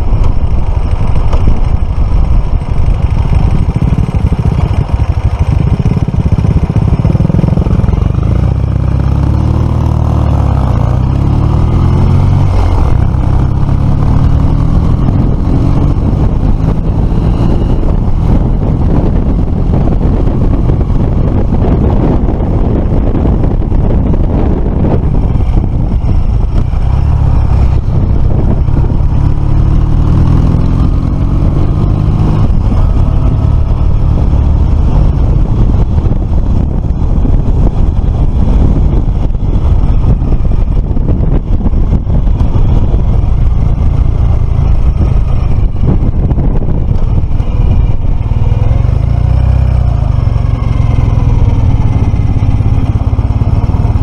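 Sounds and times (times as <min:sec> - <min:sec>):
motorcycle engine accelerating: 0:00.0 - 0:54.0
wind rumble on microphone: 0:00.0 - 0:54.0.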